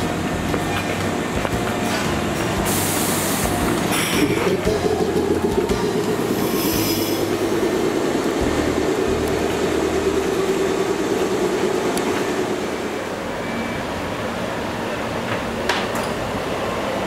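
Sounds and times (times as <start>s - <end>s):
electric train drone: 0.0s - 17.0s
rumbling rail noise: 0.0s - 17.0s.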